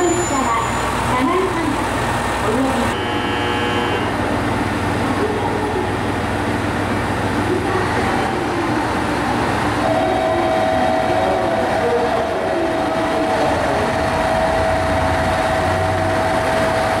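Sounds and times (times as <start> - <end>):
diesel railcar engine hum: 0.0 - 17.0.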